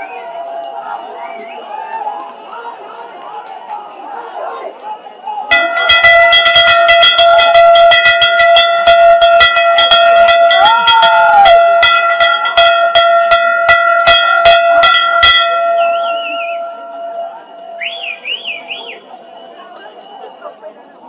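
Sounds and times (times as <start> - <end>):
bell rung rapidly: 0.0 - 21.0.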